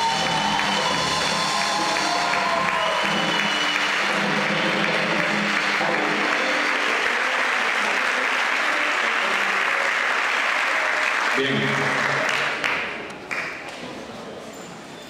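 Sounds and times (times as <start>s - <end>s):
band playing: 0.0s - 12.3s
audience applauding: 0.0s - 13.8s.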